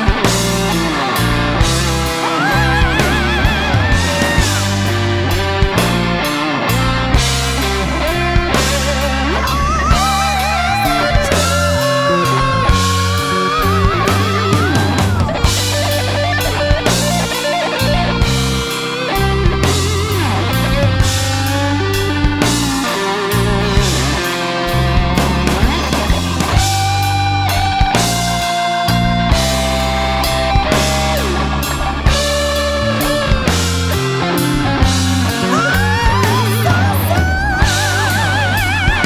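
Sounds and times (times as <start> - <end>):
bass guitar: 0.0 - 39.0
drums: 0.0 - 39.0
electric guitar solo: 0.0 - 39.0.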